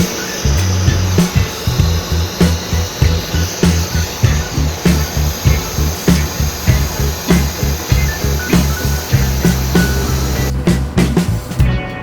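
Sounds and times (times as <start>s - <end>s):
high steady hiss: 0.0s - 11.6s
background music with beat: 0.0s - 12.0s.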